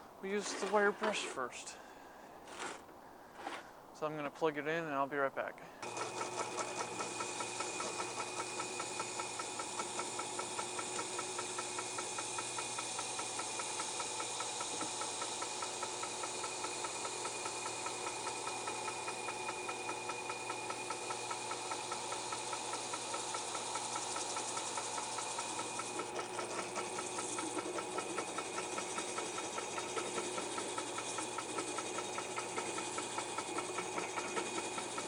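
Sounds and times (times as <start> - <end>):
power tool with wire brush: 5.8 - 35.0.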